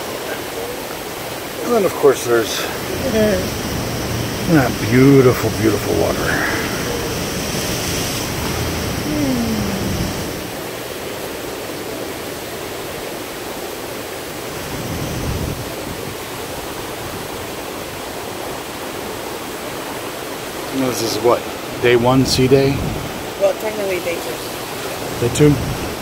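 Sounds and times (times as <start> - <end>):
sea water rushing against ship: 0.0 - 26.0.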